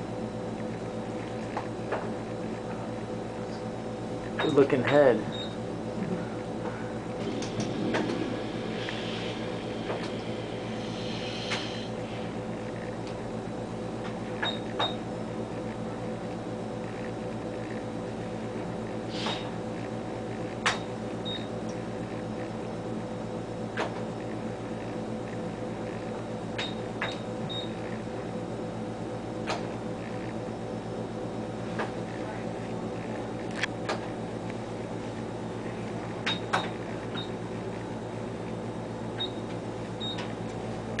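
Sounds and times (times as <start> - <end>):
ultrasound scanner humming: 0.0 - 41.0.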